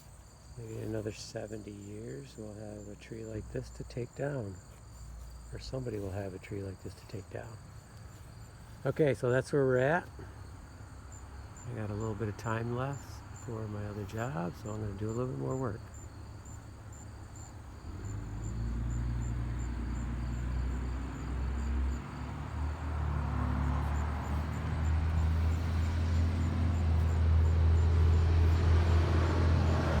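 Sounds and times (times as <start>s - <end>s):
crickets chirping: 0.0s - 30.0s
low engine rumble: 0.6s - 30.0s.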